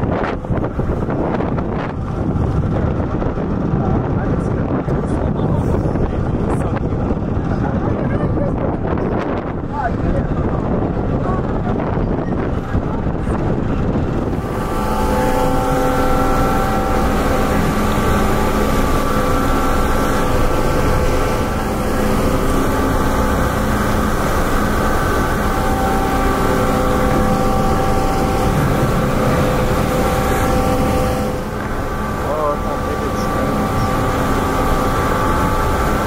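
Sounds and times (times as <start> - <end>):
ferry machinery humming: 0.0 - 36.0
wind noise on microphone: 0.0 - 36.0.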